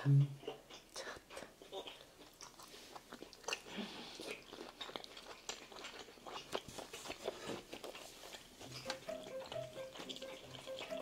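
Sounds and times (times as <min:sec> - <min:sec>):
person chewing steak: 0:00.4 - 0:11.0.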